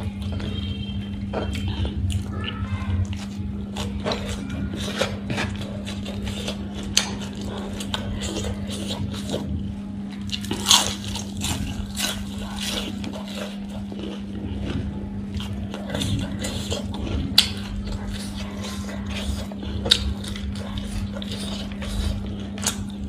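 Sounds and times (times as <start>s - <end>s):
crunching and chewing fritters: 0.0s - 23.0s
steady low hum: 0.0s - 23.0s.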